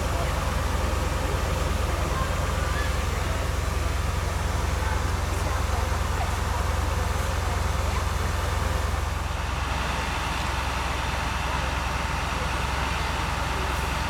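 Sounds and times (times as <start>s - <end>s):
fire engine rumbling: 0.0s - 14.0s.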